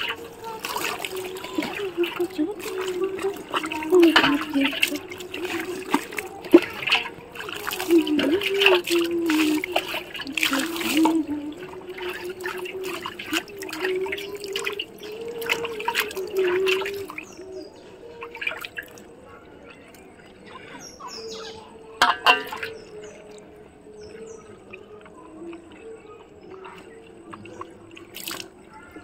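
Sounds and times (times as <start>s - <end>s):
water splashing and dripping: 0.0s - 29.0s
wavering tone: 0.0s - 29.0s.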